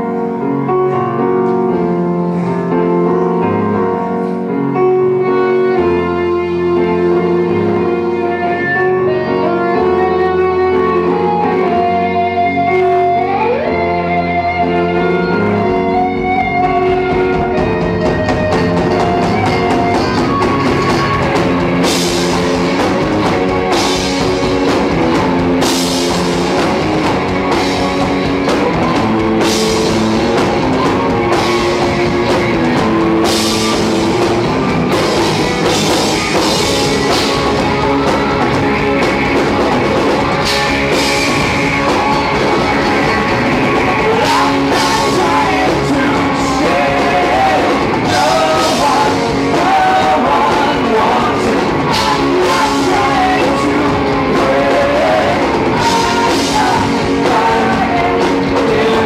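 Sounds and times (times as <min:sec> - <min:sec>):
synth keyboard: 0:00.0 - 0:58.8
bass guitar: 0:00.0 - 0:59.0
electric guitars: 0:00.0 - 0:59.0
drum kit: 0:09.8 - 0:59.0.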